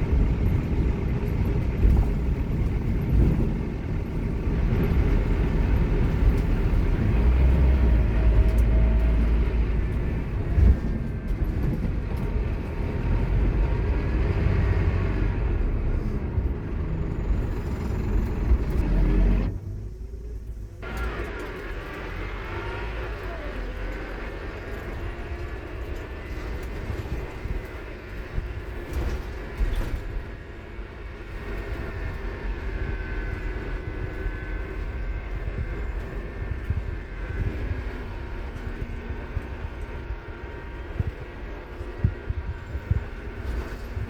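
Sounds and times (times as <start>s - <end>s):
bus engine rumble: 0.0s - 44.0s
gearbox whine: 0.0s - 44.0s.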